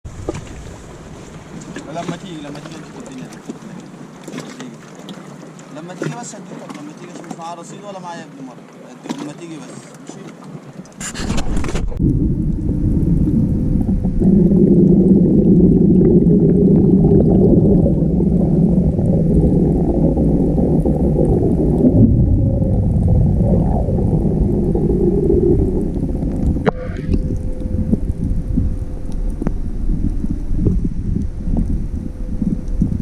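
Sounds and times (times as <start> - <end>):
underwater rush of water: 0.1 - 33.0.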